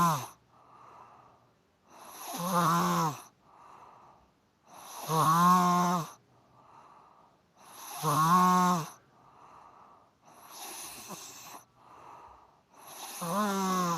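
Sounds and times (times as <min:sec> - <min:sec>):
person snoring: 0:00.0 - 0:01.0, 0:01.9 - 0:04.0, 0:04.7 - 0:07.0, 0:07.6 - 0:13.9
breathy breathing sound: 0:00.0 - 0:02.4, 0:03.2 - 0:05.1, 0:06.1 - 0:08.1, 0:08.9 - 0:13.9.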